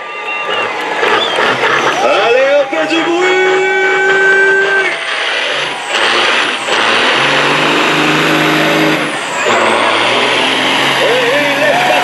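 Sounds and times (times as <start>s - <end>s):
diesel truck engine roaring: 0.0s - 12.0s
high engine whine: 0.0s - 12.0s.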